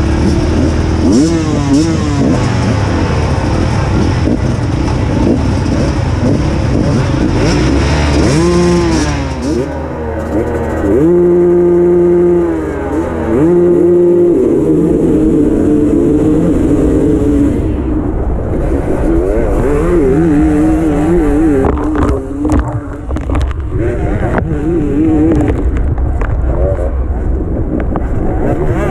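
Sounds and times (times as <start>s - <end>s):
motorcycle accelerating: 0.0s - 28.9s
motorcycle engine revving: 0.0s - 28.9s.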